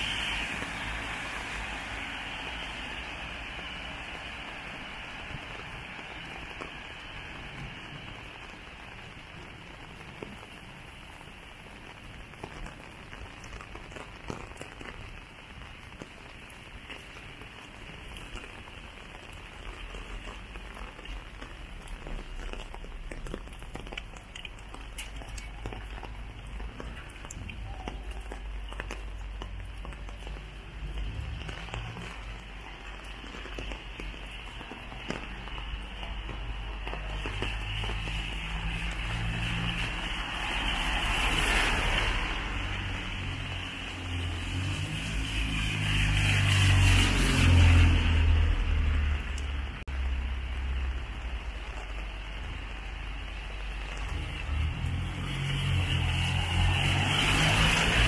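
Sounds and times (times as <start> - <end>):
rain falling on wet street: 0.0 - 58.0.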